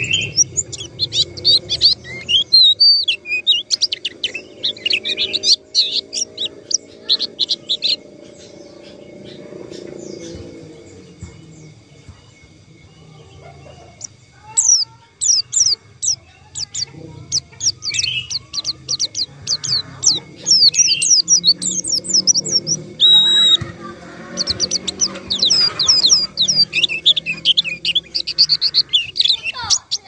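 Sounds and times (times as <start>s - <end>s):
bird chirping high notes: 0.0s - 30.0s.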